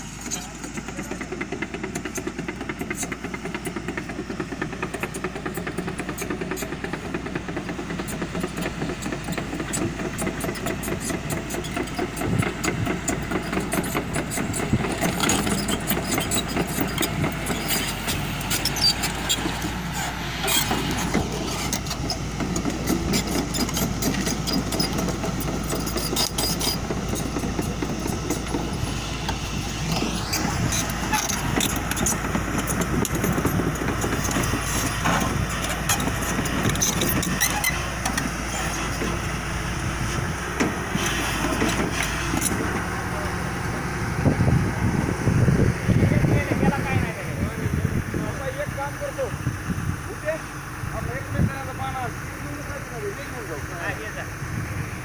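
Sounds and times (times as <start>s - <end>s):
excavator diesel engine pulsing: 0.0s - 55.0s.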